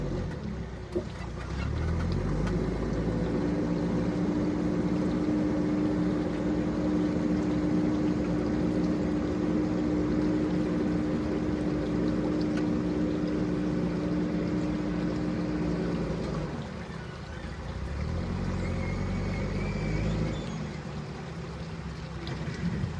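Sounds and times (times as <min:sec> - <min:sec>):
heavy machine engine running: 0:00.0 - 0:21.6.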